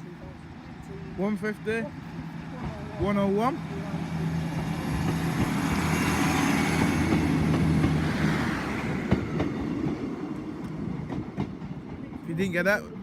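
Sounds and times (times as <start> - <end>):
diesel train engine drone: 0.0 - 13.0
wheel and rail noise: 0.0 - 13.0.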